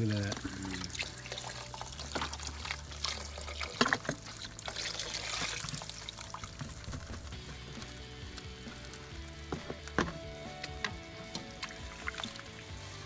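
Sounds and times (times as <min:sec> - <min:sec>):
liquid trickling into a pot: 0:00.0 - 0:13.0.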